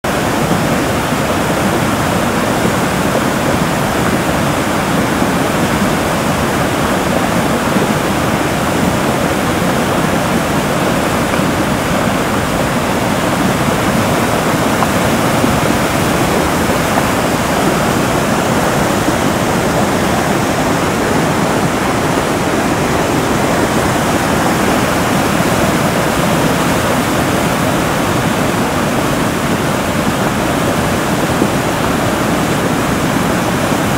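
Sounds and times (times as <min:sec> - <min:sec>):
river water rushing over a weir: 0:00.0 - 0:33.9.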